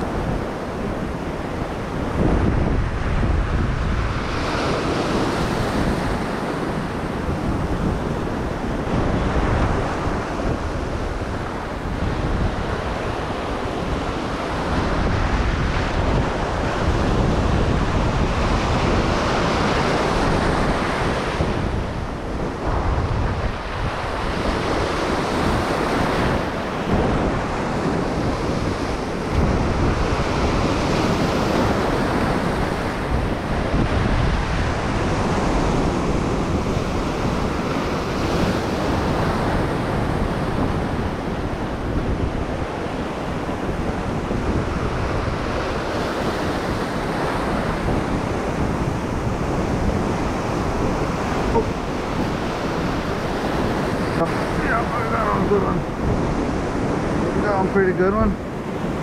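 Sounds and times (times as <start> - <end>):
surf washing over rocks: 0.0 - 59.0
wind buffeting microphone: 0.0 - 59.0.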